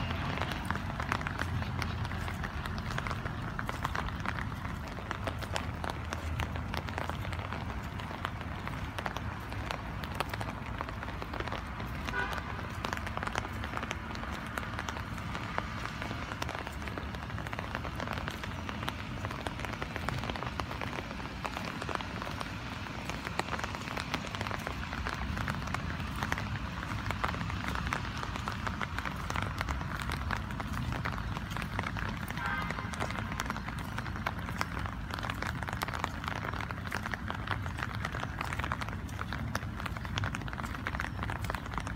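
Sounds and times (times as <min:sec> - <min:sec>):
rain pattering: 0:00.0 - 0:41.9.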